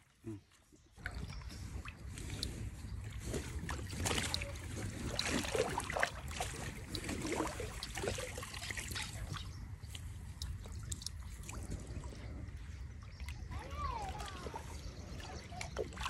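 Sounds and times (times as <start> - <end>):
fish thrashing and water splashing: 0.7 - 16.0
wind rumble on microphone: 0.8 - 16.0.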